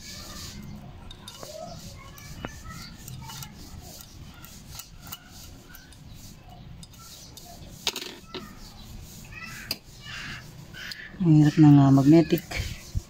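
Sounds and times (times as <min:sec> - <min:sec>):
small metal clicks and rubbing: 0:00.0 - 0:13.0.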